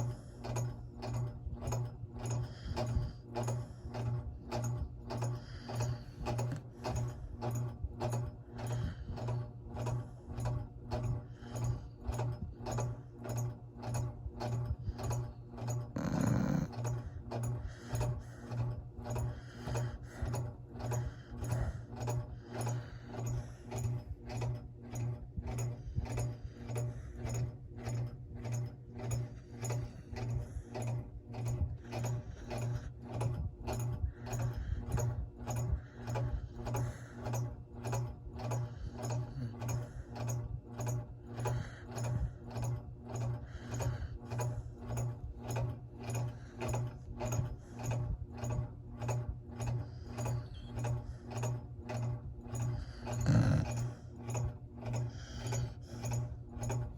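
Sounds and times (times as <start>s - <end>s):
rattling snoring: 0.0s - 56.9s.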